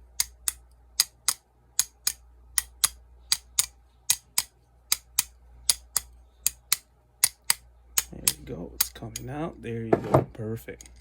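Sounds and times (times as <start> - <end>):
sharp metal clicks: 0.1 - 9.4.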